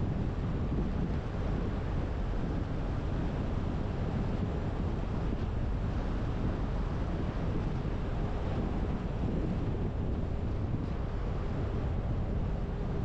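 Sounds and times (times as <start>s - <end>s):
car road and wind noise: 0.0s - 13.0s
wind buffeting microphone: 0.0s - 13.0s.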